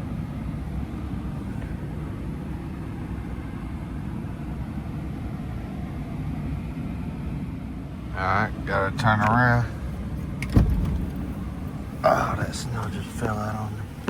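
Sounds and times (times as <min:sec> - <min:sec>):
engine rumbling inside cab: 0:00.0 - 0:14.0.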